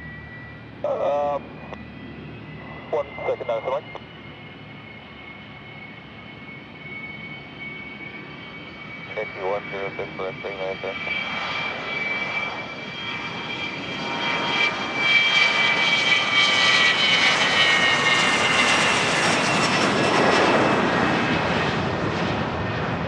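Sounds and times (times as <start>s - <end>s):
jet engines whining: 0.0s - 23.0s.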